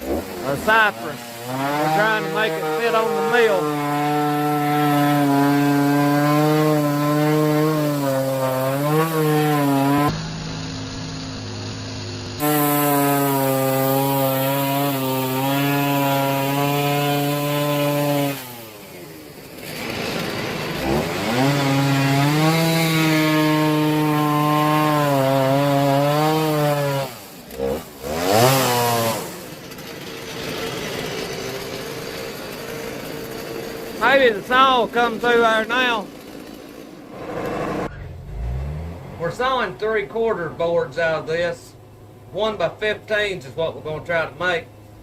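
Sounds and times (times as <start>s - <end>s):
chainsaw cutting log: 0.0s - 40.0s.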